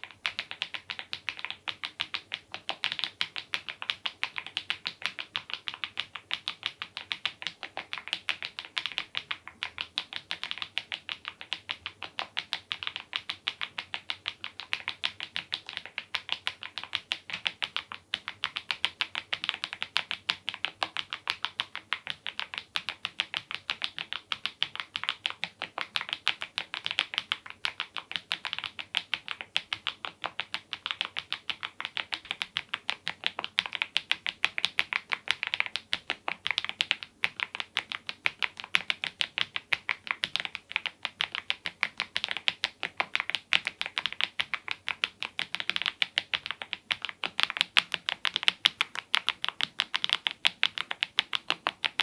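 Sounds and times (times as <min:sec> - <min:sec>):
mechanical keyboard keystroke clacks: 0:00.0 - 0:52.0.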